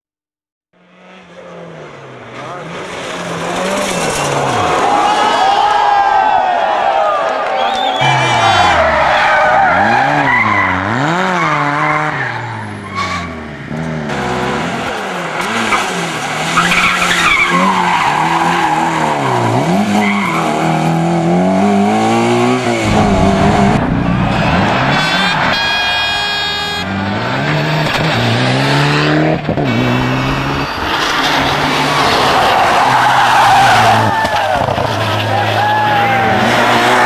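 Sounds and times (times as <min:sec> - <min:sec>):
rally car engines revving: 0:00.8 - 0:06.3, 0:07.6 - 0:37.0
tyres skidding: 0:01.0 - 0:37.0.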